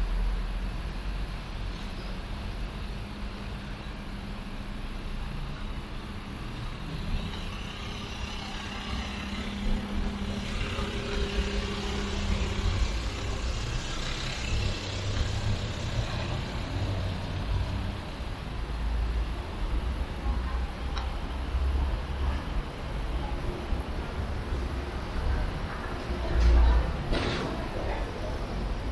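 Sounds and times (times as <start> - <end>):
engine humming: 0.0 - 23.2
vehicles passing on road: 0.0 - 28.9.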